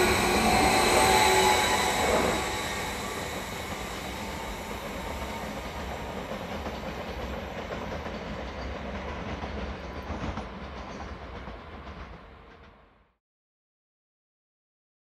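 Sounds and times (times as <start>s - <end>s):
train rumbling: 0.0s - 13.1s
train wheels clacking on rails: 0.0s - 13.1s.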